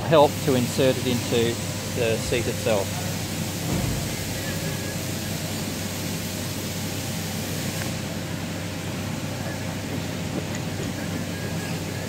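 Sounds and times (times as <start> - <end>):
workshop hiss and hum: 0.0 - 12.0.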